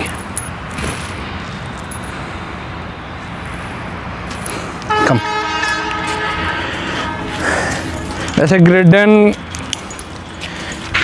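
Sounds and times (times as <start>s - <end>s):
distant road traffic rumble: 0.0s - 11.0s.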